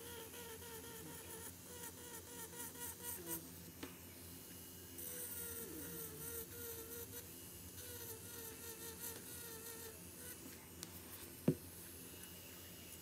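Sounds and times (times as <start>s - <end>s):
faint buzzing hum: 0.0s - 13.0s.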